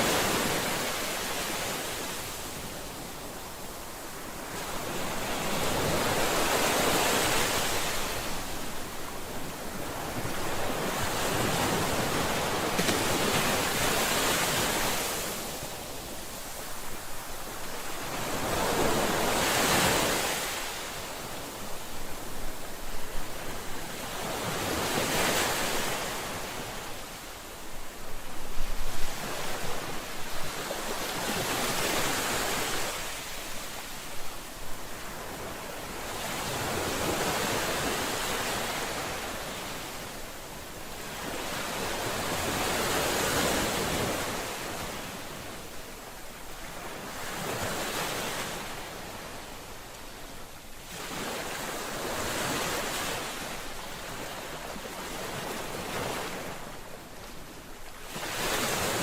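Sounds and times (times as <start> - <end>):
ocean waves washing on shore: 0.0 - 59.0
waves crashing: 0.0 - 59.0.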